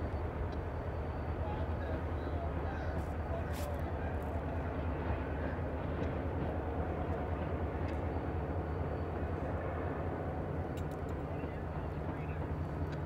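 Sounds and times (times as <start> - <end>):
distant train rumbling past: 0.0 - 13.0.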